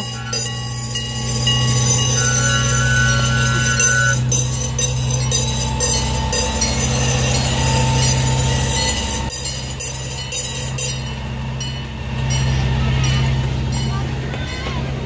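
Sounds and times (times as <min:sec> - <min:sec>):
crossing bell ringing: 0:00.0 - 0:15.0
miniature train engine drone: 0:00.0 - 0:15.0
wheels rattling on rails: 0:00.0 - 0:15.0.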